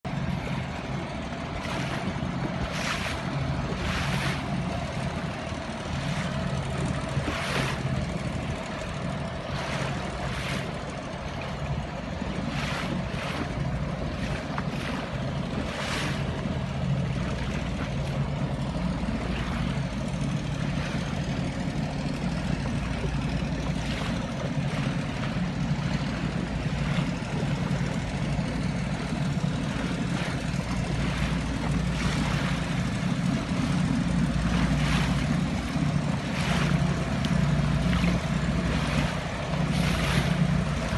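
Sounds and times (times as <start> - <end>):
engine droning: 0.0 - 40.9.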